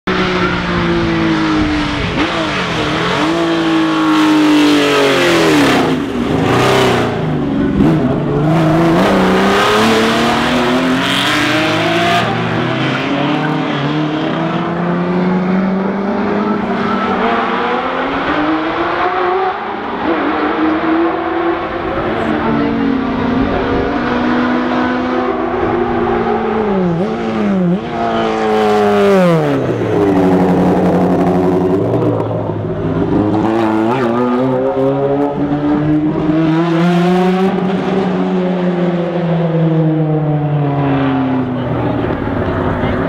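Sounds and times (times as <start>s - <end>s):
racing cars accelerating past: 0.1s - 43.0s.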